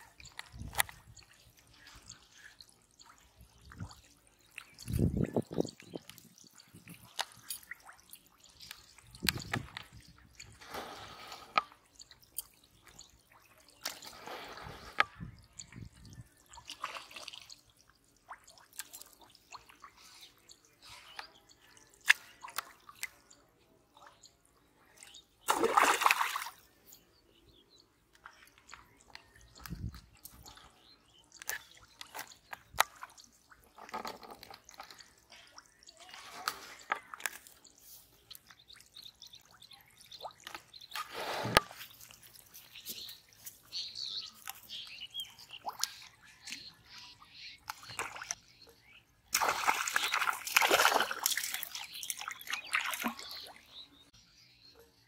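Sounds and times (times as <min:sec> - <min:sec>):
water splashing and dripping: 0:00.0 - 0:27.0, 0:28.1 - 0:54.1.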